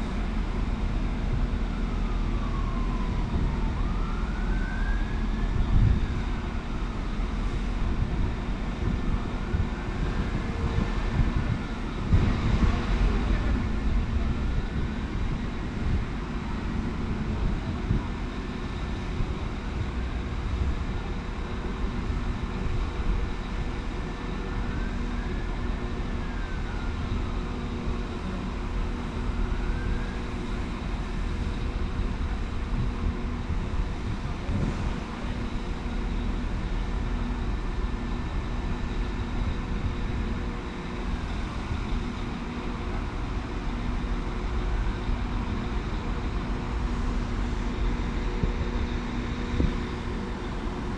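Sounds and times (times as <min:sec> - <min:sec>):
constant hum: 0:00.0 - 0:50.9
faint rising and falling whine: 0:00.0 - 0:50.9
train rumbling: 0:04.8 - 0:50.9.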